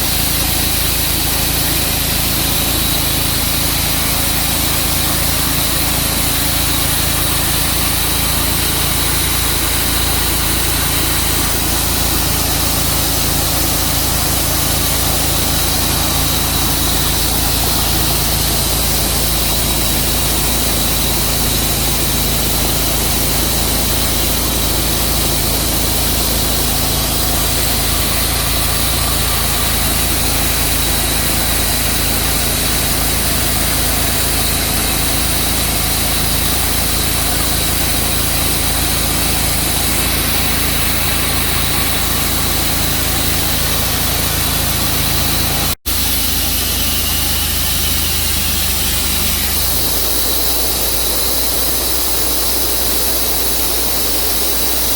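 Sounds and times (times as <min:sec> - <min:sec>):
sawmill engine cutting log: 0:00.0 - 0:54.9.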